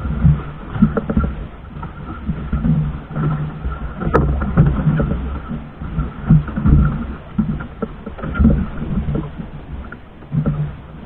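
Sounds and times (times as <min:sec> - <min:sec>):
water slapping boat hull: 0:00.0 - 0:11.0.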